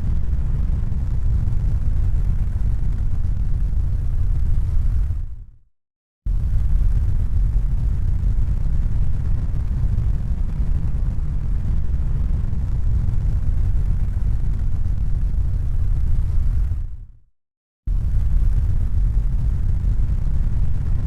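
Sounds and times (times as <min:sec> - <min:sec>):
deep rumble: 0:00.0 - 0:05.6, 0:06.3 - 0:17.1, 0:17.9 - 0:21.0.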